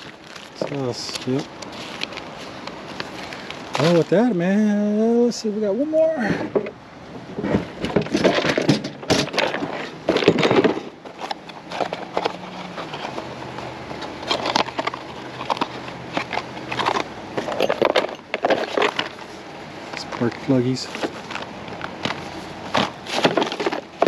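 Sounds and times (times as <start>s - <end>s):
boxes and parts rummaged through: 0.0s - 24.0s.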